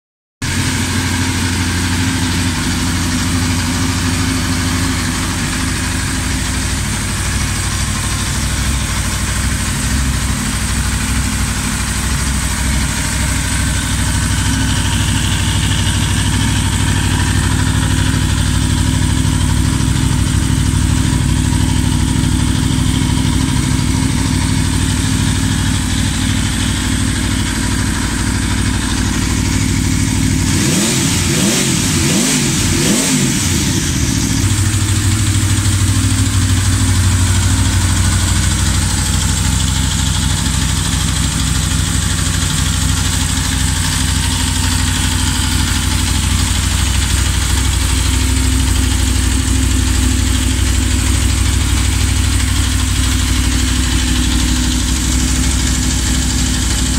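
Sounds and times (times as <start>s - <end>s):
motorcycle engine idling: 0.4s - 56.9s.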